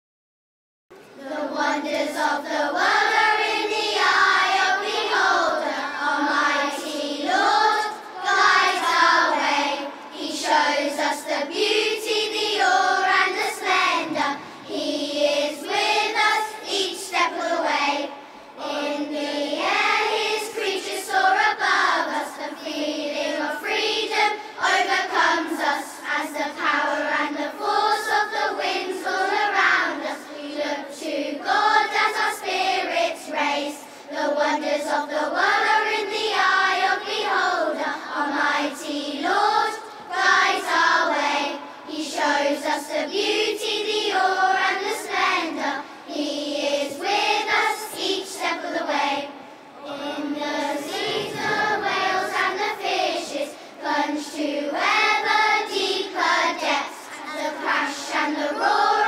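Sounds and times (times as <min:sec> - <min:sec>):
children's choir singing: 0:01.0 - 0:59.0.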